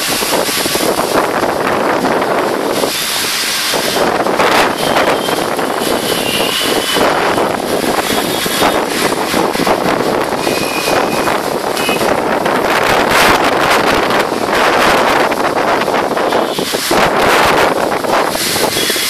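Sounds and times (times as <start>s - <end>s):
strong wind gusting: 0.0s - 19.0s.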